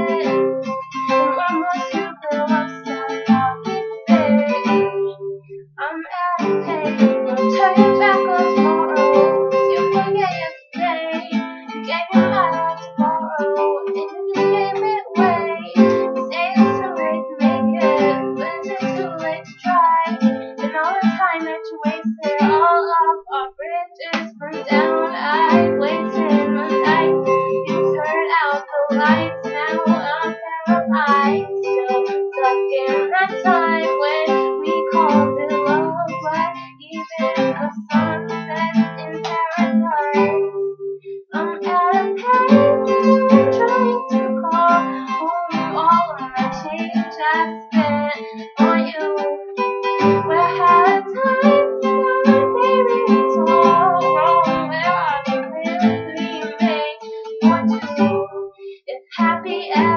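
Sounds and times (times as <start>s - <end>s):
acoustic guitar strumming: 0.0s - 59.9s
person singing: 0.0s - 59.9s.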